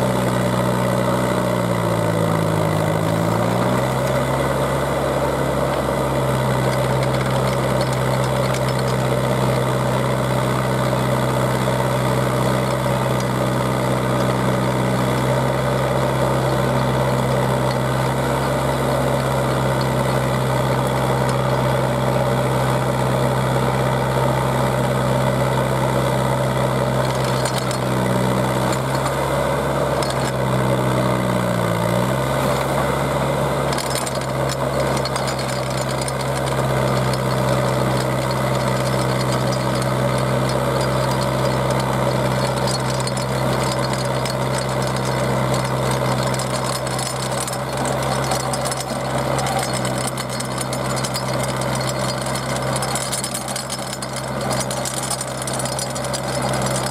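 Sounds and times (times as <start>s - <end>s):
auger drilling into ground: 0.0s - 56.9s
drill rig engine running: 0.0s - 56.9s.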